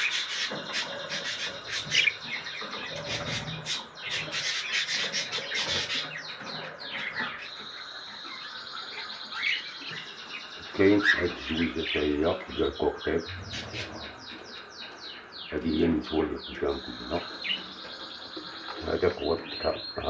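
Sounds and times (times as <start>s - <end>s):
cage birds chirping and squawking: 0.0s - 20.0s.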